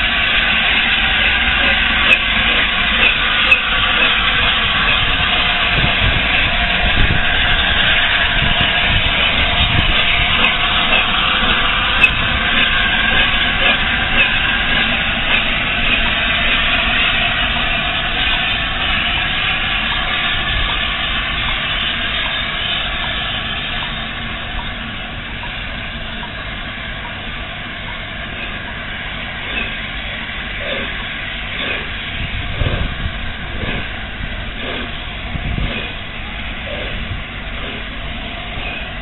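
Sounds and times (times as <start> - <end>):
loud steam hissing: 0.0 - 39.0
steam locomotive exhaust beats: 0.0 - 39.0.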